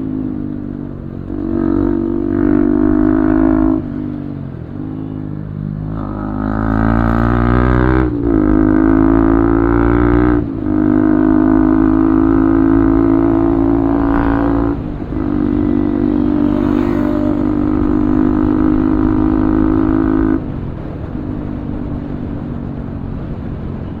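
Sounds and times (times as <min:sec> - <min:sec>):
motorcycle engine revving: 0:00.0 - 0:21.5.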